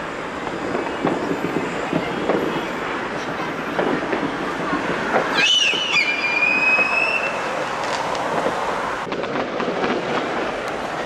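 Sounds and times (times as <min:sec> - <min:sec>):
tram wheels squealing: 0:00.0 - 0:09.0
street noise: 0:00.0 - 0:11.0
tram rumbling past: 0:00.0 - 0:11.0.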